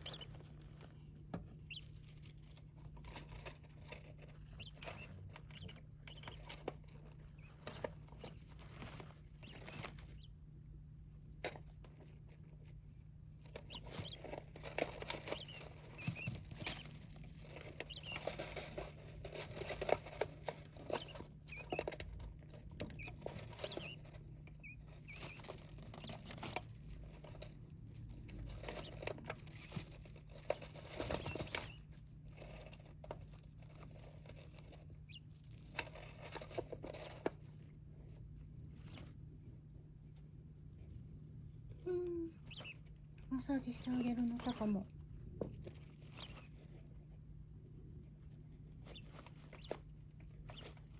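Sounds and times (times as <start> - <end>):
birds scratching and pecking: 0.0 - 50.9
steady low hum: 0.0 - 50.9.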